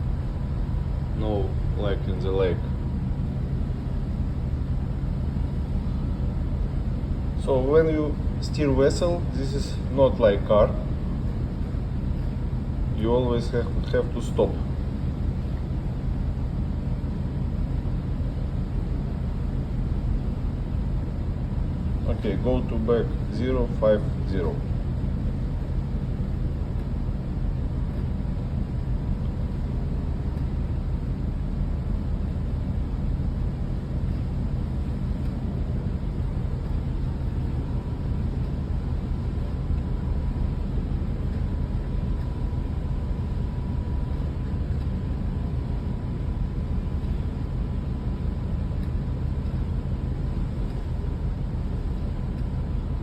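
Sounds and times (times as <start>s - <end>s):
faint steady whine: 0.0s - 53.0s
ship engines rumbling: 0.0s - 53.0s.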